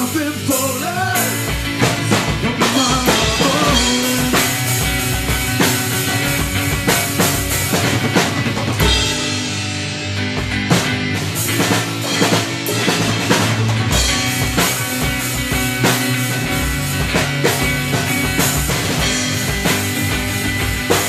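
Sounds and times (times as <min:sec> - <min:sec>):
drum kit beat: 0:00.0 - 0:21.0
electric guitars: 0:00.0 - 0:21.0.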